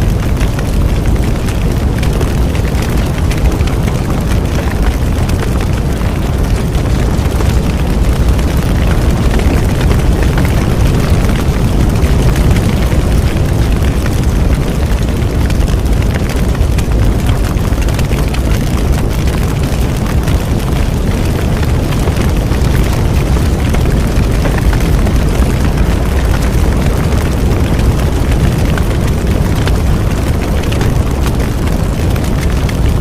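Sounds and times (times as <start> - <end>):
bonfire flames rumbling: 0.0 - 33.0
fire crackling and popping: 0.0 - 33.0.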